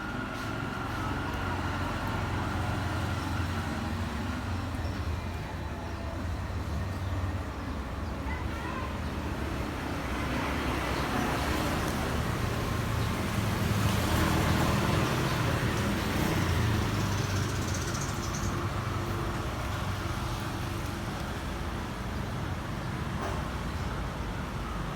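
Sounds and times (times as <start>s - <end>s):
road traffic noise: 0.0s - 24.9s.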